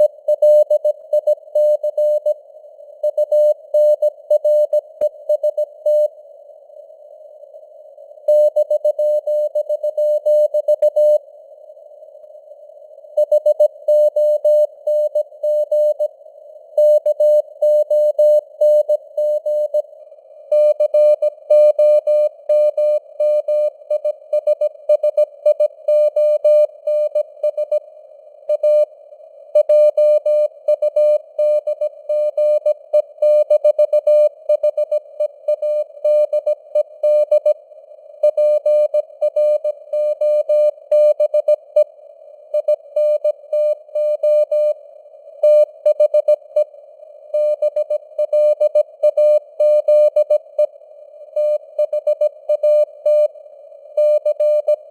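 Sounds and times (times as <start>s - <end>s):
faint radio hiss: 0.0s - 54.9s.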